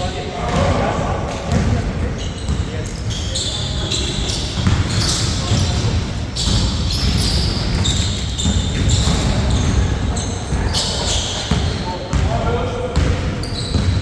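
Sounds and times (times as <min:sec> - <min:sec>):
players' voices: 0:00.0 - 0:14.0
basketball bouncing: 0:01.5 - 0:03.1, 0:03.8 - 0:14.0.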